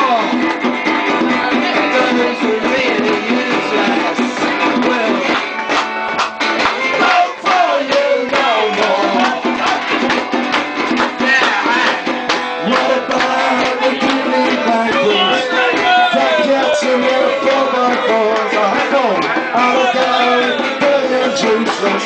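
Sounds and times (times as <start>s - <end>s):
man singing into a microphone: 0.0s - 0.4s, 1.2s - 5.4s, 6.8s - 10.0s, 11.1s - 22.0s
band instruments: 0.0s - 22.0s
percussion beat: 0.0s - 22.0s.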